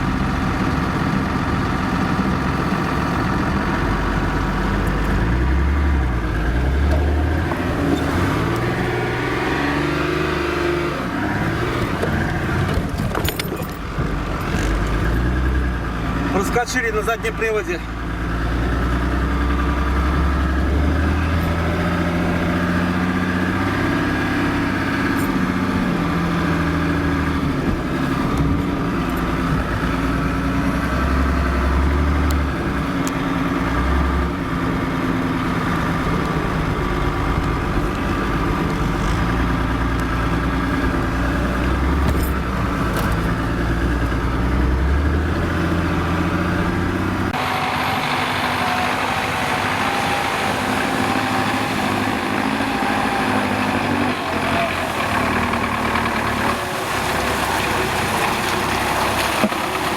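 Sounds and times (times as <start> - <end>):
truck diesel engine revving: 0.0 - 59.9.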